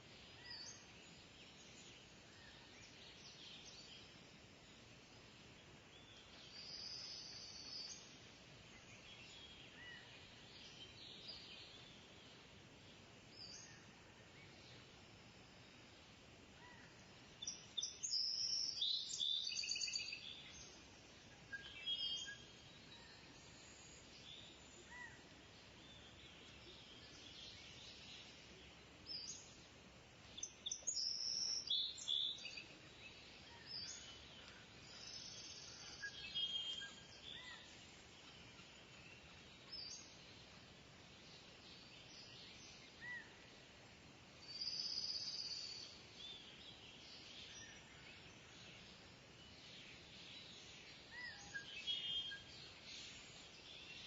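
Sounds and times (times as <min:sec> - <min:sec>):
faint outdoor hiss: 0:00.0 - 0:54.0.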